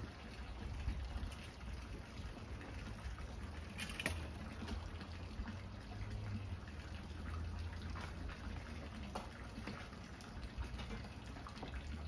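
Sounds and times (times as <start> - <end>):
water dripping: 0.0 - 12.0
water spraying from hose: 0.0 - 12.0.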